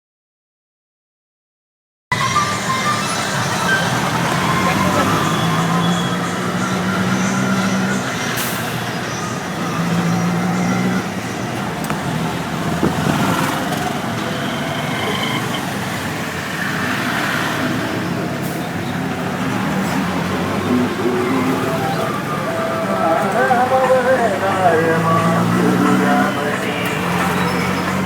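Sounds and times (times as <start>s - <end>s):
road traffic: 2.1s - 28.0s.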